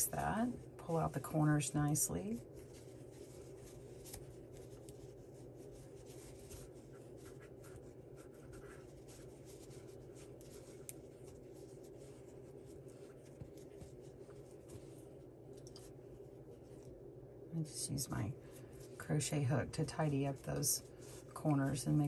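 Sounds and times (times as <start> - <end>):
rubbing and scratching of fabric: 0.0 - 22.0.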